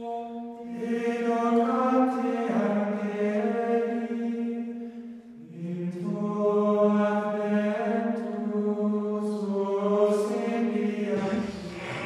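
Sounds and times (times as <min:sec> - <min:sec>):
choir holding sustained chords: 0:00.0 - 0:12.0.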